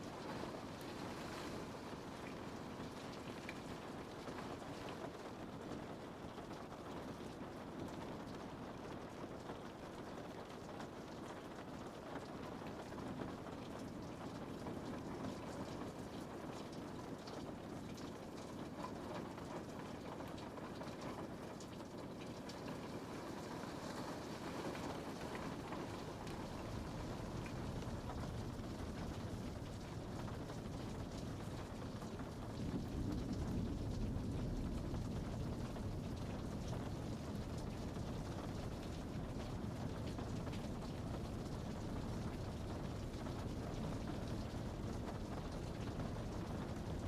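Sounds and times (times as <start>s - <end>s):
rain on a window: 0.0s - 47.0s.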